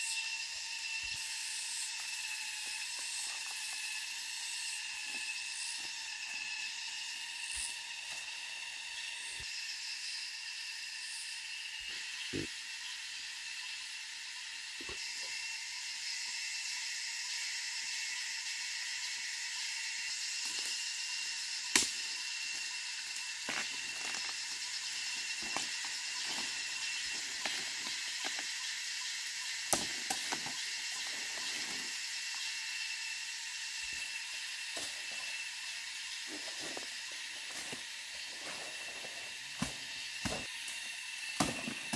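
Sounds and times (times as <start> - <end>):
forest insects humming: 0.0 - 41.9.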